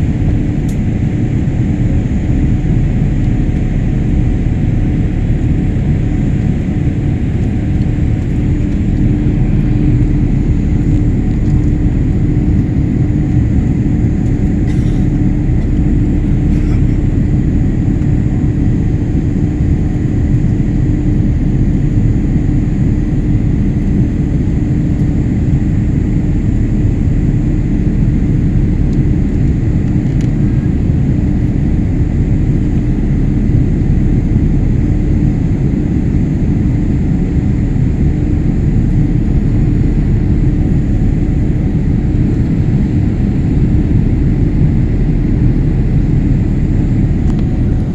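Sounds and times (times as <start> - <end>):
airplane cabin engine rumble: 0.0 - 47.9
steady hum: 0.0 - 47.9.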